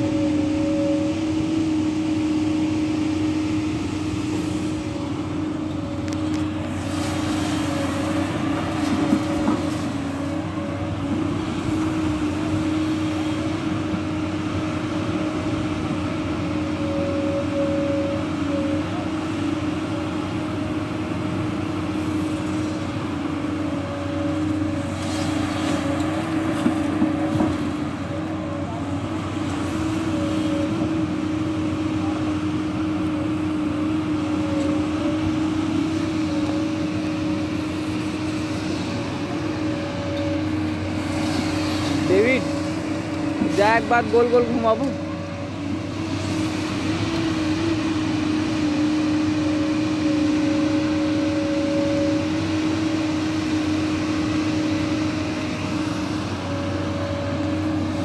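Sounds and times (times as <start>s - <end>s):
excavator diesel engine droning: 0.0s - 58.0s.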